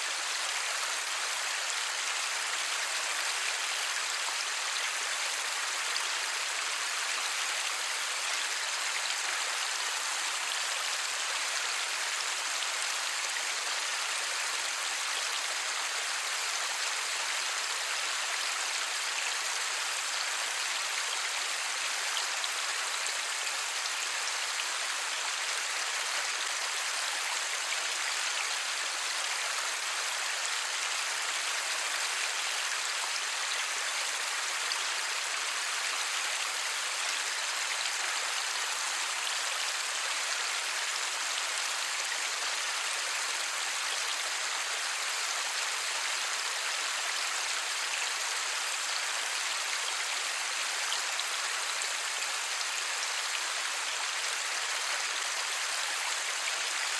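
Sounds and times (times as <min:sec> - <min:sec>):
light rain: 0:00.0 - 0:56.9.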